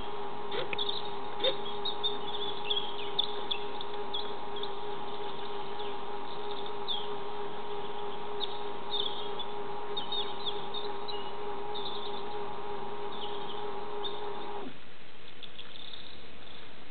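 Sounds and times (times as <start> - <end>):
small birds chirping: 0.0 - 14.6
mechanical hum: 0.0 - 16.9.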